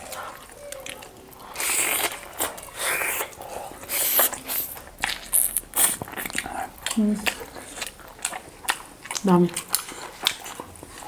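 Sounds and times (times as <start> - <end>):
person chewing and smacking: 0.0 - 11.0.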